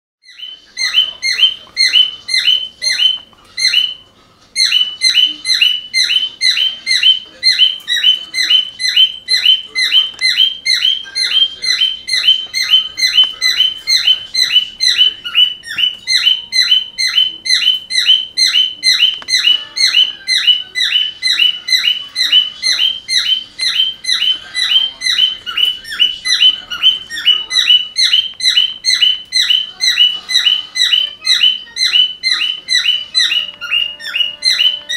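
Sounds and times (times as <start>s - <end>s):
cockatiel chirping like car alarm: 0.2s - 4.0s, 4.6s - 34.9s.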